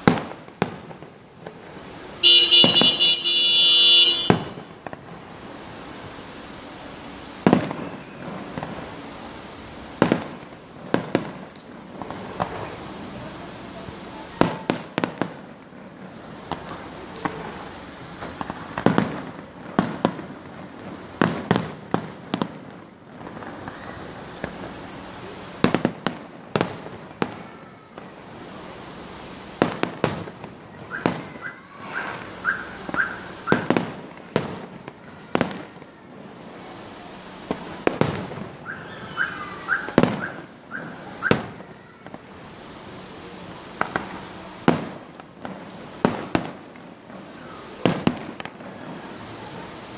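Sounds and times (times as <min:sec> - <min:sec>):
fireworks bangs: 0:00.0 - 0:49.9
fireworks crackling: 0:00.0 - 0:49.9.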